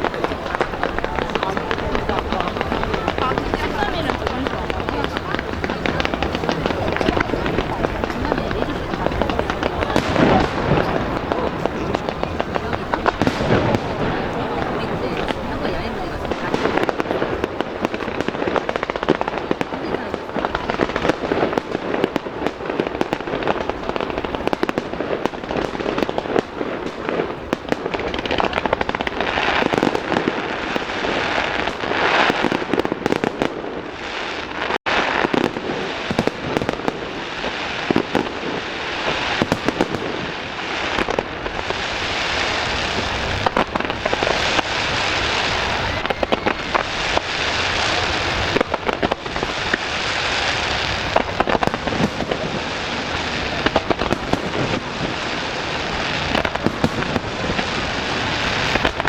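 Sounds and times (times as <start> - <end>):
fireworks popping and cracking: 0.0 - 59.0.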